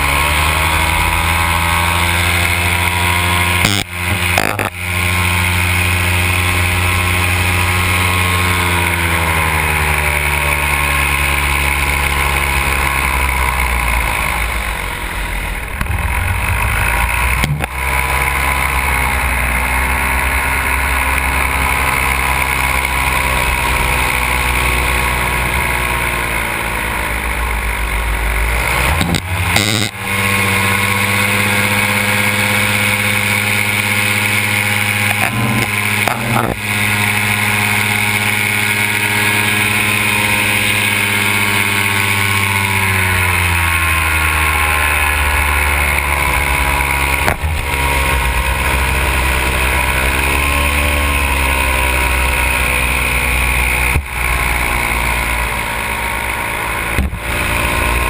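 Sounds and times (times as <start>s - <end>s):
two-stroke engine and propeller: 0.0s - 58.0s.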